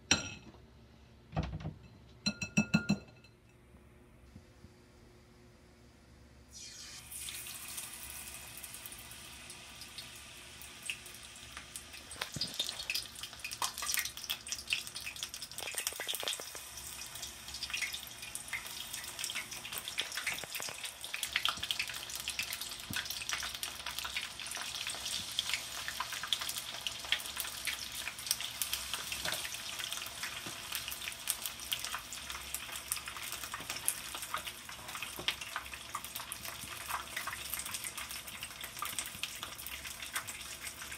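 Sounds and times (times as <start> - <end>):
food deep-frying in hot oil: 6.5 - 40.9.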